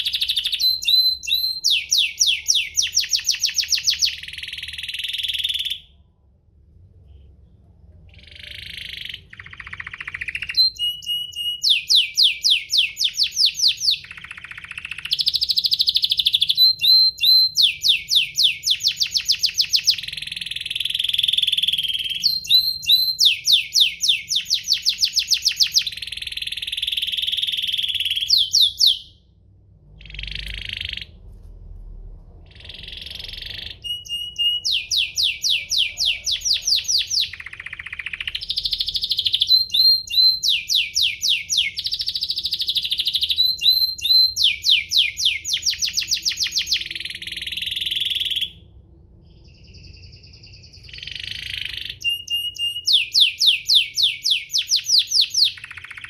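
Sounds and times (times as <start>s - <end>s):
canary singing trills: 0.0s - 6.0s, 8.1s - 29.2s, 30.0s - 31.2s, 32.5s - 48.6s, 49.3s - 56.0s.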